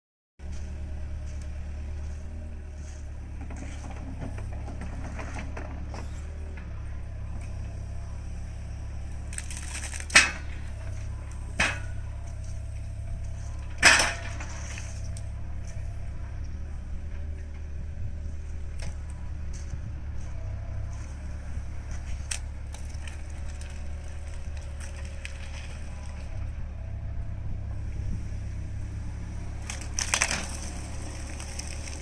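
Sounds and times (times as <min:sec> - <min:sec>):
diesel engine low hum: 0:00.4 - 0:32.0.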